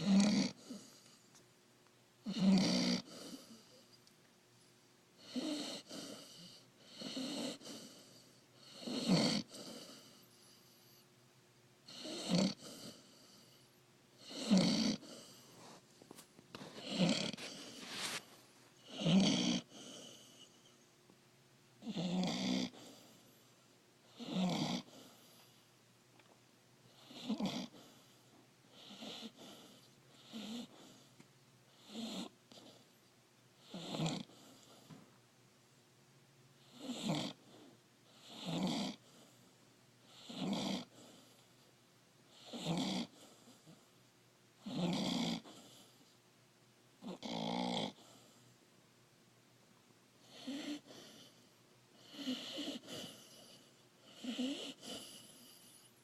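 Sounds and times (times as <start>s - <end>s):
puppy snoring: 0.0s - 1.4s, 2.2s - 4.0s, 5.2s - 11.0s, 11.8s - 20.8s, 21.8s - 25.7s, 26.8s - 33.0s, 33.6s - 35.0s, 36.6s - 44.0s, 44.6s - 46.2s, 47.0s - 48.5s, 50.2s - 56.0s.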